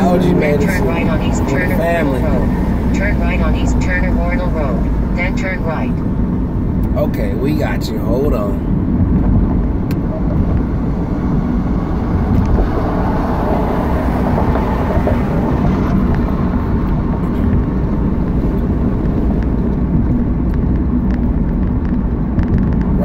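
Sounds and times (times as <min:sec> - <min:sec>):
car cabin road and engine rumble: 0:00.0 - 0:23.0.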